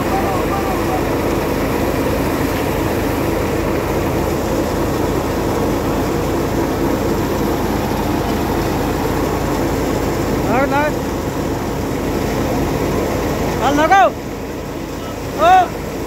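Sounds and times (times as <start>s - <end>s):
threshing machine running: 0.0s - 16.0s.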